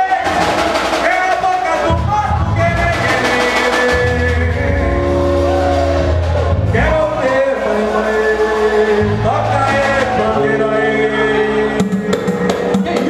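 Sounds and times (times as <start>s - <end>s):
samba band playing: 0.0s - 13.0s
person singing long notes: 1.8s - 13.0s.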